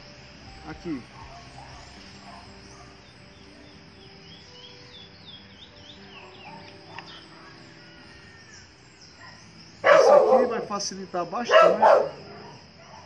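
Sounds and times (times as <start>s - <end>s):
bird chirping: 0.0s - 13.0s
high insect drone: 0.0s - 13.0s.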